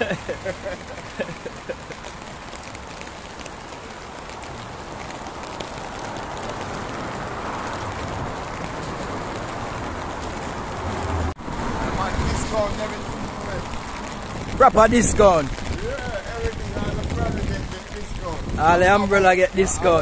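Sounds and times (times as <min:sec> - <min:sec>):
rain on a wet street: 0:00.0 - 0:20.0.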